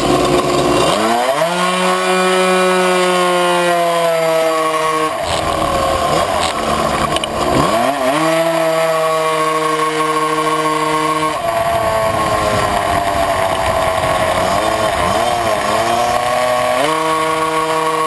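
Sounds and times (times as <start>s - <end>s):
two-stroke moped engine revving: 0.0s - 18.0s.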